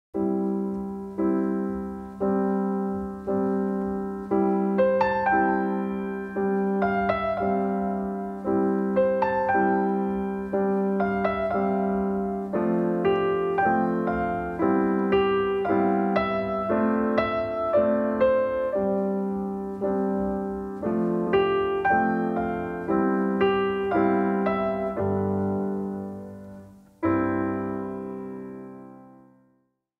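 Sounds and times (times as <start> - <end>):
gentle piano music: 0.1 - 29.7.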